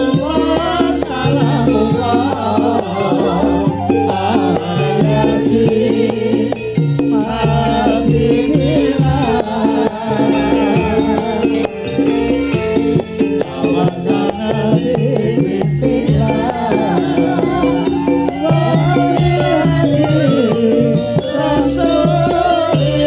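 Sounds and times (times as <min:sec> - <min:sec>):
gamelan-style percussion: 0:00.0 - 0:23.0
hand drums: 0:00.0 - 0:23.0
people singing: 0:00.0 - 0:23.0.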